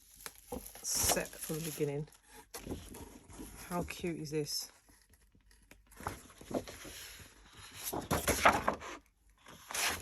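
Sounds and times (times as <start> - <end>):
paper rustling and crinkling: 0.0 - 3.7, 4.9 - 10.0.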